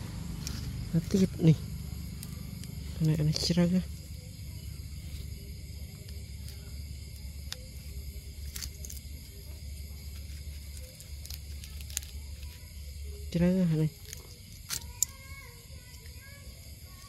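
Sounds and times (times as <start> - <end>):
steady low hum: 0.0 - 17.0
tweezers picking at rotten wood: 0.2 - 16.1.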